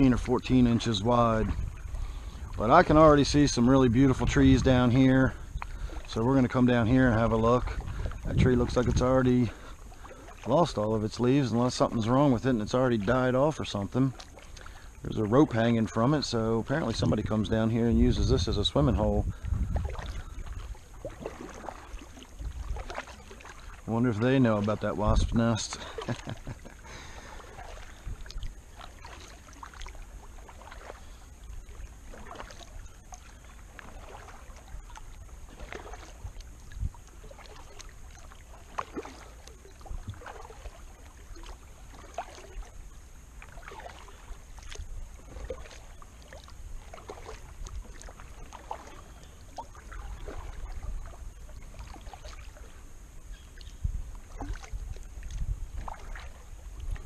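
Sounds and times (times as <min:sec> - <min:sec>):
wind rumble on microphone: 0:00.0 - 0:14.2, 0:15.0 - 0:57.0
paddle splashing in water: 0:00.0 - 0:57.0.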